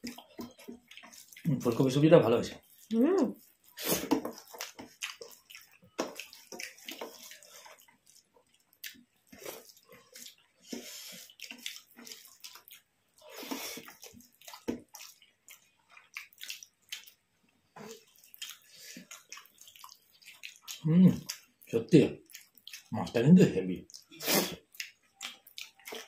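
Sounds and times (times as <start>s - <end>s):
food being mixed and chewed: 0.0s - 26.0s.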